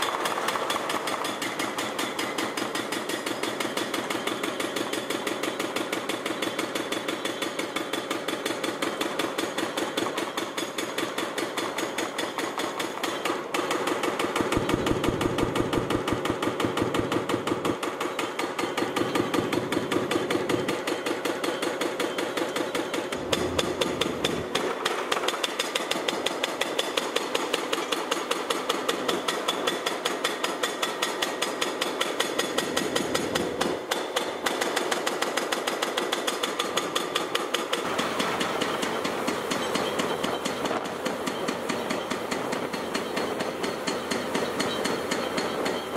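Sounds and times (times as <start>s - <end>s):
hydraulic breaker hammering concrete: 0.0s - 45.9s.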